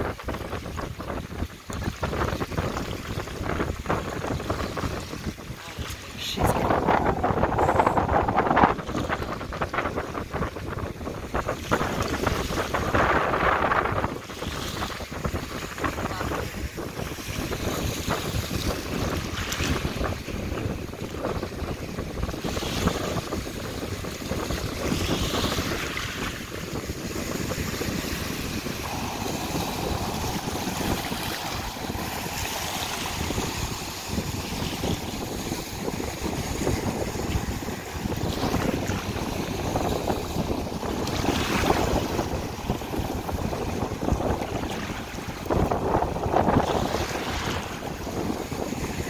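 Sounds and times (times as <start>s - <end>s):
small ocean waves: 0.0s - 49.0s
surf breaking on rocks: 0.0s - 49.0s
wind buffeting microphone: 0.0s - 49.0s.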